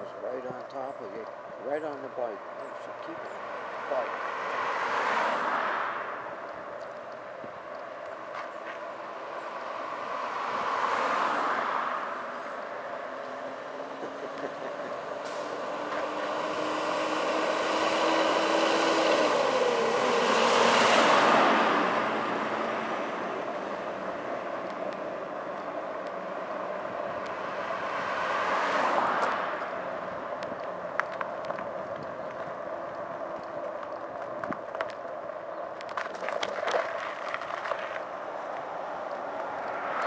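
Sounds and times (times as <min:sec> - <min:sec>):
wind and road noise: 0:00.0 - 0:40.0
vehicle passing: 0:03.0 - 0:34.3, 0:35.9 - 0:40.0.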